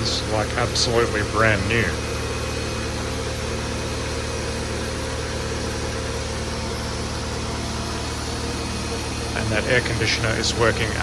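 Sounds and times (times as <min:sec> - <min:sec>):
air conditioning blower hiss: 0:00.0 - 0:11.0
car engine idling: 0:00.0 - 0:11.0.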